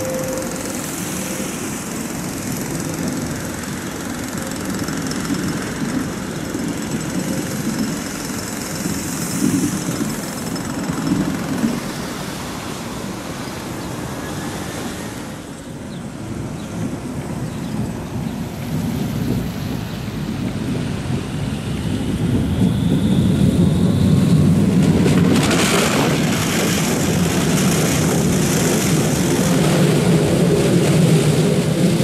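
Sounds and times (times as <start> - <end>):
tram wheels rumbling on rails: 0.0 - 32.0.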